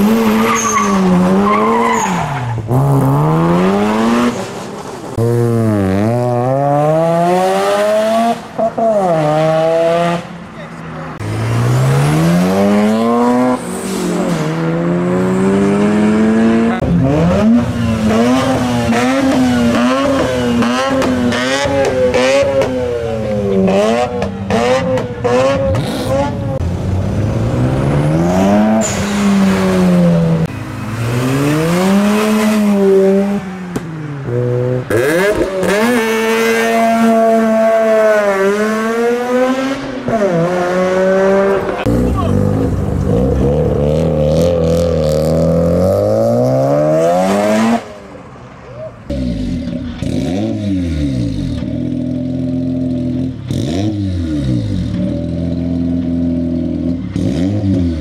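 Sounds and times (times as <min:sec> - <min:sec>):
rotary engines revving: 0:00.0 - 0:58.0.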